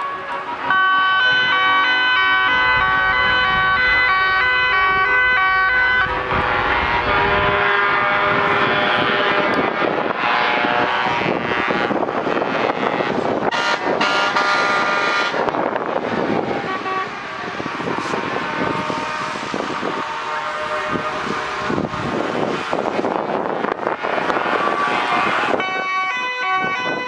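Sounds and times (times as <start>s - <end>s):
road noise: 0.0s - 27.0s
truck engines running: 0.0s - 27.0s
truck horns sounding: 0.0s - 27.0s.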